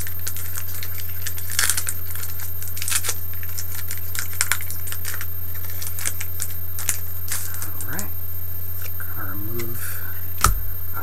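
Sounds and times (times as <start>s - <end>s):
foil wrapper crackling: 0.0s - 10.8s
steady low hum: 0.0s - 11.0s.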